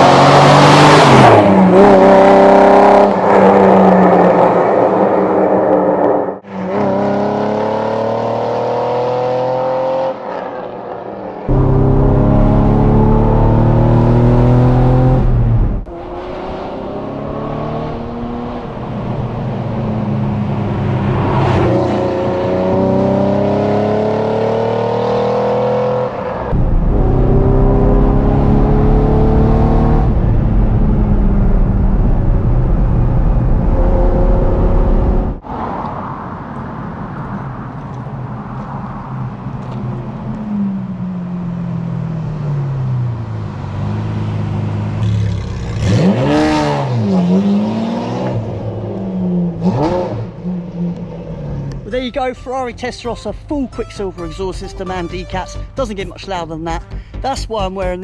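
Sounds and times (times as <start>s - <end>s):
loud sports car engine accelerating: 0.0s - 36.0s, 39.5s - 51.8s.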